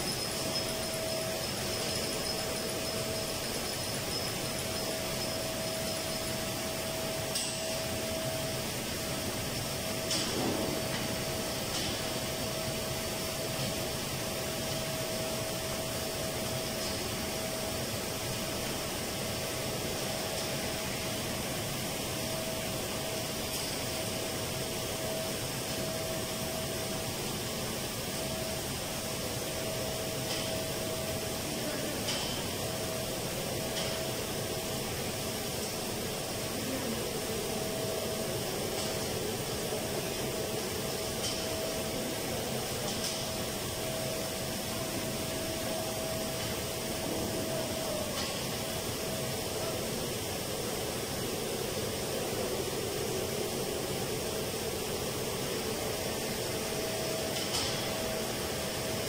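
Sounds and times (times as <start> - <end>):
machinery hum with whine: 0.0 - 59.0.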